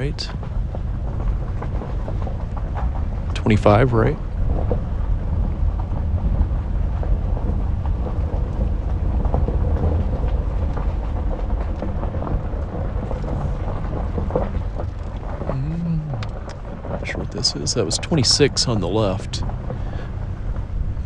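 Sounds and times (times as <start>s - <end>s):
vehicle rumbling slowly: 0.0s - 21.0s
small ticks and crackles: 0.1s - 21.0s.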